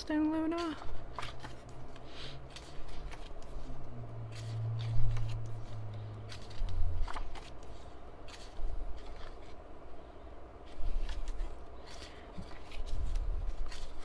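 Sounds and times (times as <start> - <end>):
low steady hum: 0.0 - 14.0
paper rustles and taps: 0.6 - 3.8, 4.4 - 9.6, 10.7 - 14.0
pages being turned: 0.6 - 9.6, 10.6 - 14.0.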